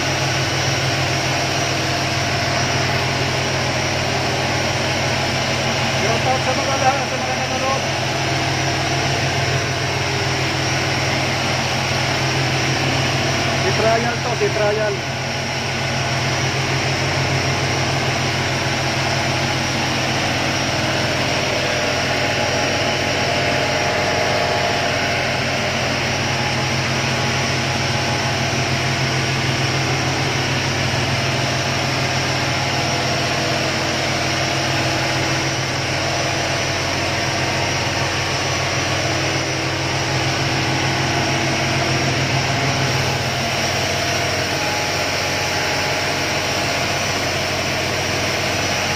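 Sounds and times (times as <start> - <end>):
boat engine under load: 0.0 - 48.9.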